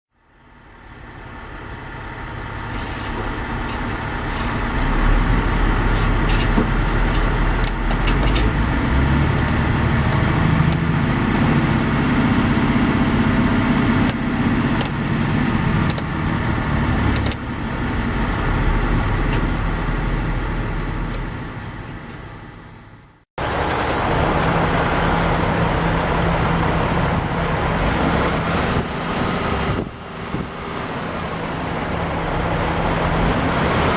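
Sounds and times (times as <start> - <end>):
excavator diesel engine drone: 0.1 - 33.9.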